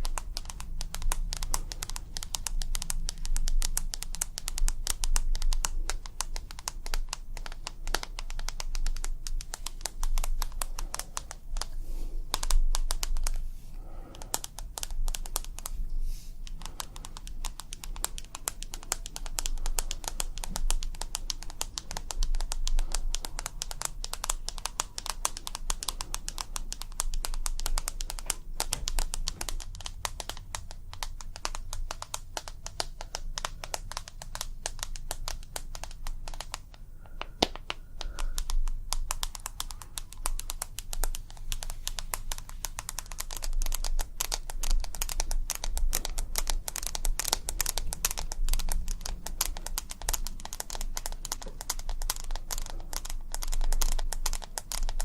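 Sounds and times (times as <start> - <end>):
rapid tapping and clicks: 0.0 - 55.0.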